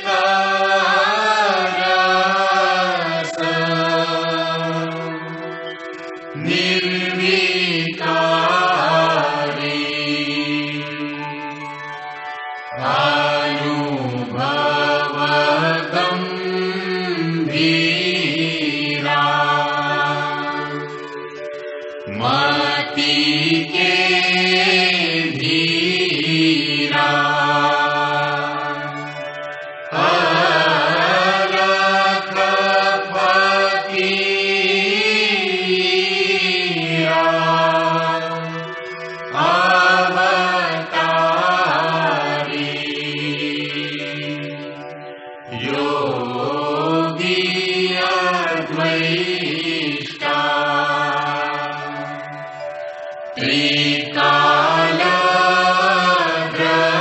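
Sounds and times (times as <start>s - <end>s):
devotional chanting: 0.0s - 57.0s.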